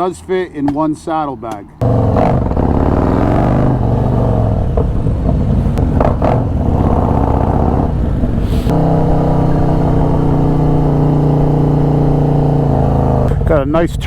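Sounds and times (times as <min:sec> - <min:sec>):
motorcycle engines running: 0:01.8 - 0:14.0.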